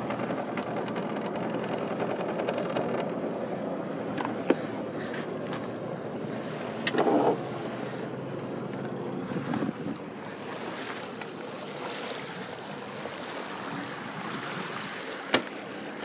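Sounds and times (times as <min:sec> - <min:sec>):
light wind: 0:00.0 - 0:16.0
water rushing past boat: 0:00.0 - 0:16.0.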